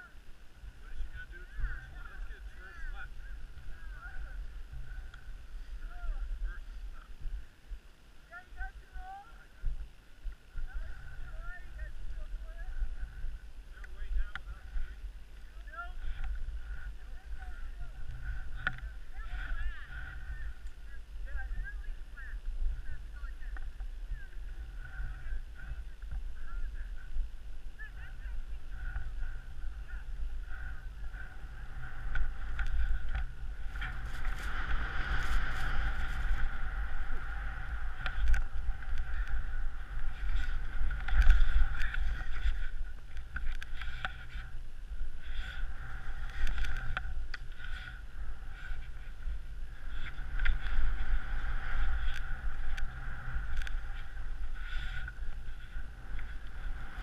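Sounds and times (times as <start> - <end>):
wind rumbling on microphone: 0.0 - 57.0
skis sliding over snow: 10.7 - 57.0.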